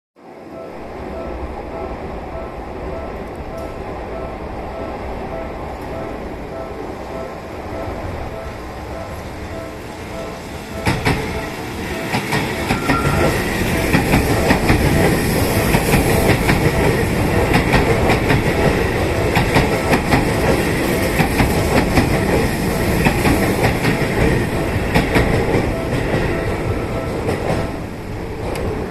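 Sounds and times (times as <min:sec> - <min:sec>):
electric train rumbling past: 0:00.2 - 0:28.9
level crossing warning bell: 0:00.4 - 0:27.9.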